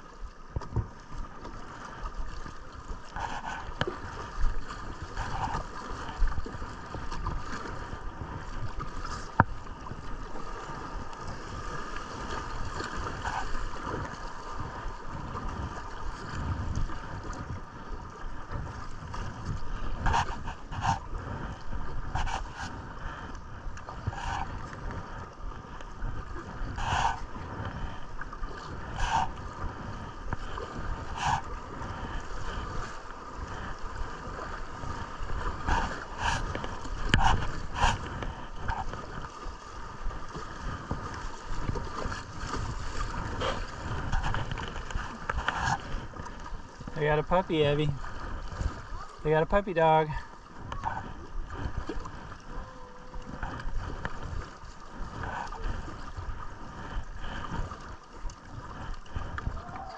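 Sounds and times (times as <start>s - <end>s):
paddle splashes: 0.0s - 59.9s
river water running: 0.0s - 59.9s
wind rumble on microphone: 0.0s - 59.9s.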